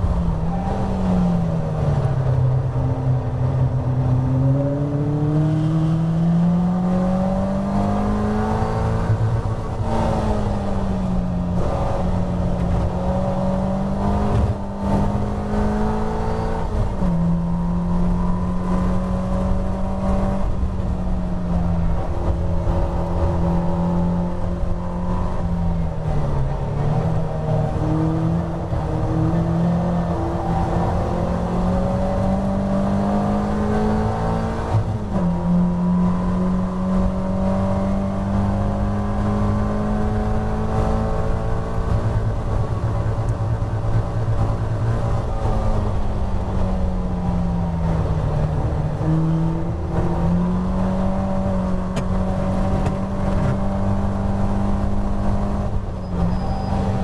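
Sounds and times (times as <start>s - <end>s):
race car engine accelerating: 3.4s - 57.0s.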